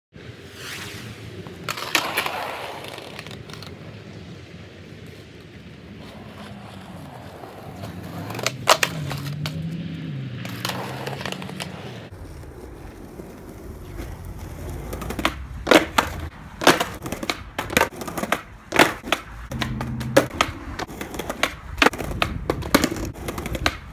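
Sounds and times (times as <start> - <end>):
skateboard rolling on concrete: 0.2 - 23.9
skateboard wooden clacks: 1.5 - 3.8, 6.0 - 9.7, 10.4 - 23.9.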